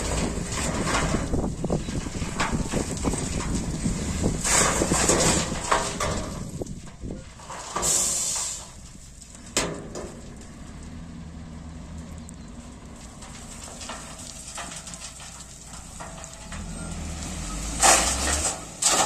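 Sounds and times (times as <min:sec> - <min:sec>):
clatter: 0:00.0 - 0:11.0, 0:12.0 - 0:16.9, 0:17.7 - 0:19.0.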